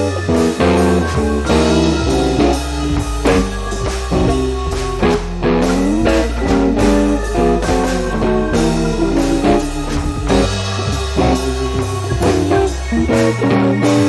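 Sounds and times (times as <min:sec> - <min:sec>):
guitar-led instrumental music: 0:00.0 - 0:14.0.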